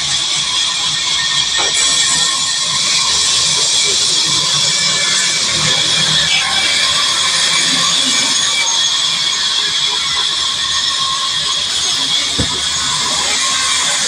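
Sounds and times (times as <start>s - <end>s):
sawmill saw running: 0.0s - 14.0s.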